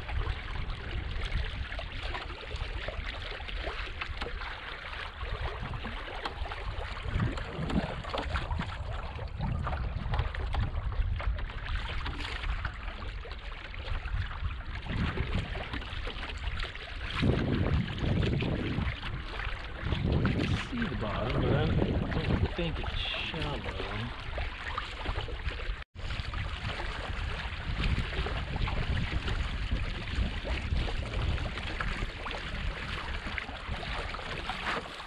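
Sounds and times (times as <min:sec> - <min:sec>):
water rushing along a hull: 0:00.0 - 0:35.0
wind rumbling on microphone: 0:00.0 - 0:35.0.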